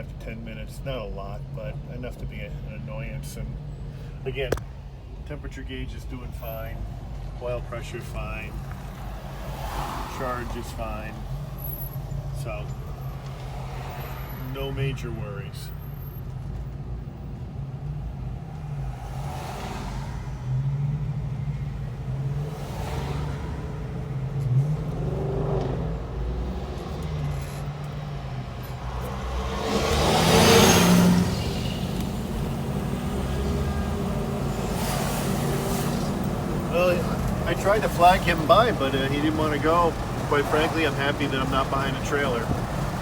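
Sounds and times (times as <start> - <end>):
car engine cruising: 0.0 - 43.0
vehicles swishing past: 8.1 - 43.0.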